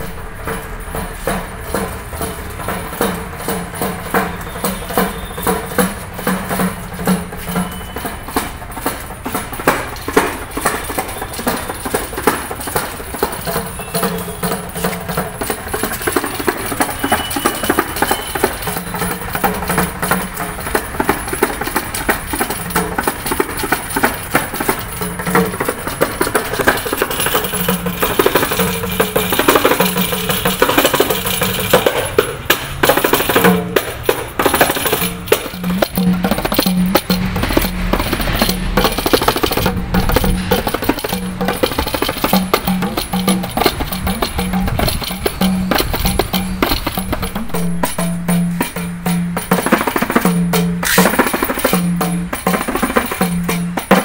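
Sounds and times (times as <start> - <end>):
frame drum with jingles: 0.0 - 54.0.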